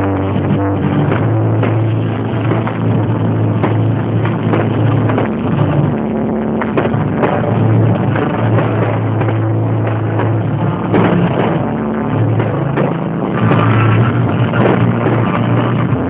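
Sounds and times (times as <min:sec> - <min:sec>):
fireworks bangs and crackles: 0:00.0 - 0:16.0
loud music with deep bass: 0:00.0 - 0:16.0.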